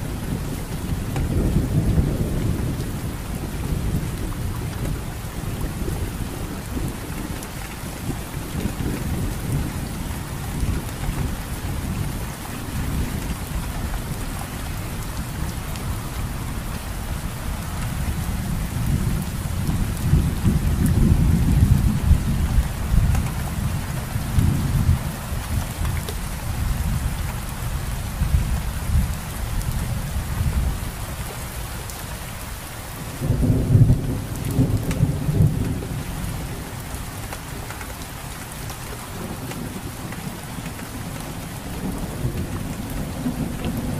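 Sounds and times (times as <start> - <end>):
steady rain falling: 0.0 - 43.9
rumbles of thunder: 0.1 - 16.8, 17.7 - 27.2, 33.1 - 37.6, 39.1 - 43.9.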